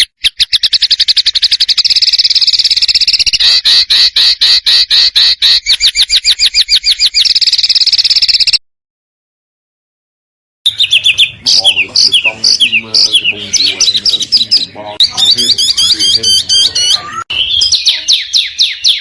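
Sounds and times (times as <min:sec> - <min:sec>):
songbird trilling call: 0:00.0 - 0:08.6, 0:10.7 - 0:19.0.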